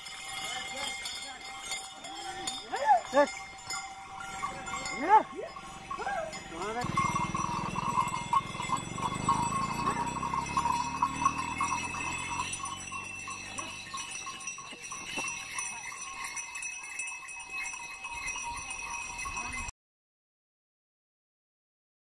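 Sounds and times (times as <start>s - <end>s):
animal bells jingling: 0.0s - 19.7s.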